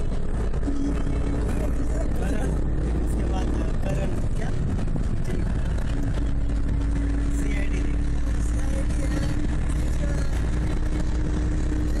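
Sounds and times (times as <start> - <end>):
car cabin road rumble: 0.0 - 12.0
steady hum: 0.0 - 12.0.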